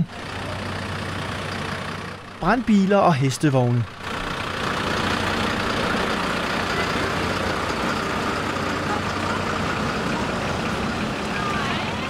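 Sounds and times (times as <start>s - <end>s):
large vehicle engine running: 0.0s - 12.0s.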